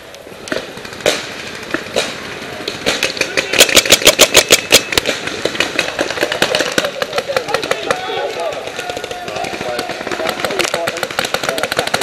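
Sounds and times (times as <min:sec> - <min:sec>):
paintball marker firing rapidly: 0:00.5 - 0:12.0.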